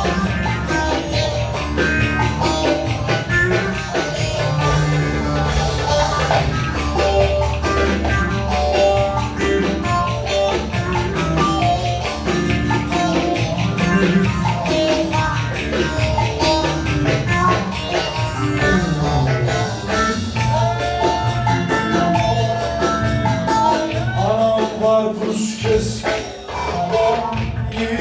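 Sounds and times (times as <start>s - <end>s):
plucked string melody: 0.0s - 24.6s
fast dance beat: 0.0s - 24.8s.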